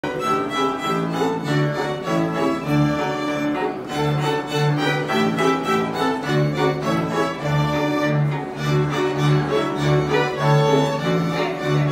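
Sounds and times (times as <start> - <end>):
folk band playing: 0.0 - 11.9
violins playing melody: 0.0 - 11.9.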